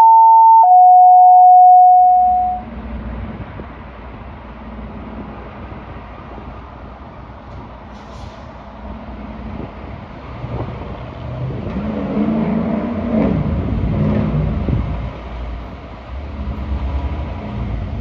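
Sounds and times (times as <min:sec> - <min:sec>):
heavy truck engine rumble: 0:02.7 - 0:18.0.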